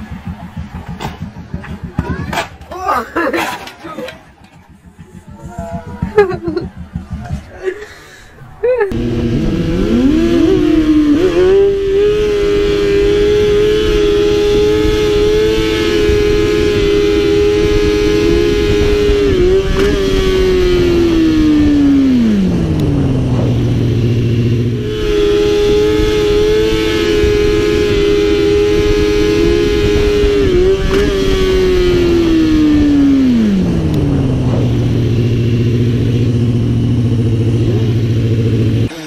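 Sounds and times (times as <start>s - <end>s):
motorcycle engine revving: 0.0s - 2.4s, 4.3s - 7.8s, 8.4s - 39.0s.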